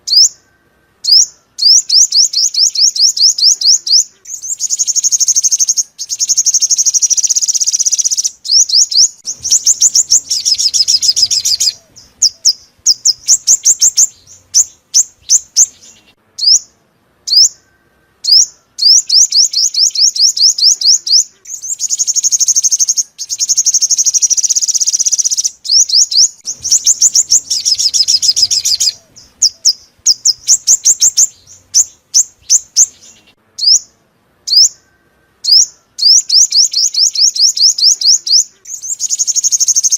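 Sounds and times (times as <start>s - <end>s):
bird trilling and chirping: 0.0s - 39.9s.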